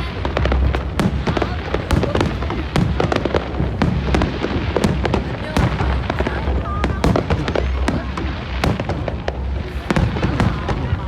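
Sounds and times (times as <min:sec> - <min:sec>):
fireworks cracks and pops: 0:00.0 - 0:11.0.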